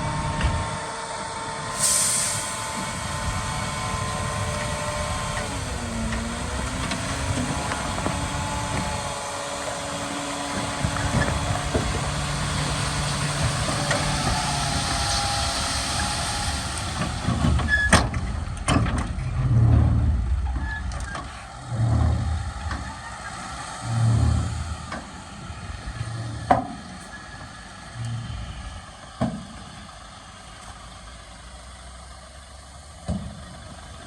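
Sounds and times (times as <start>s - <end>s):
heavy diesel machinery running: 0.0s - 34.0s.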